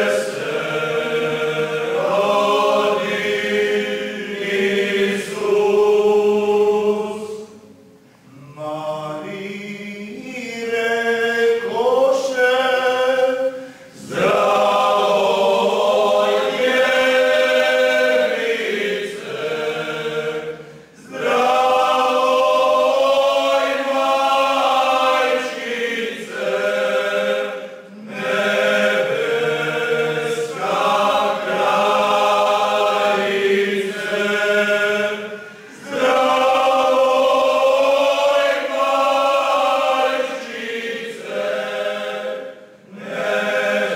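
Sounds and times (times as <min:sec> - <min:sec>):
men singing in harmony: 0:08.3 - 0:43.9.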